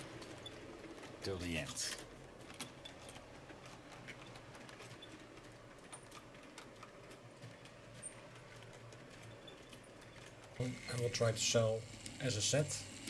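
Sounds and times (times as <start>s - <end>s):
low steady hum: 0.0s - 13.0s
model train clicking on track: 0.0s - 13.0s.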